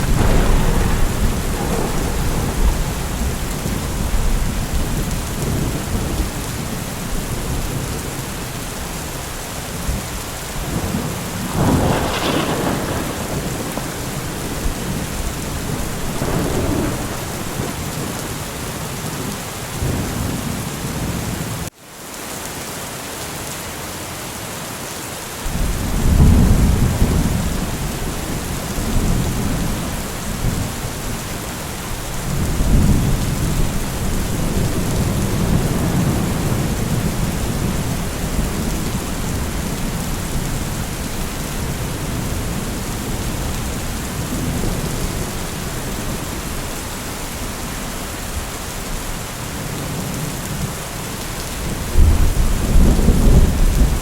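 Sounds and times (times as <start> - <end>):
rolling thunder rumbles: 0.0 - 21.6, 25.5 - 50.8, 51.4 - 54.0
heavy rain hissing: 0.0 - 54.0.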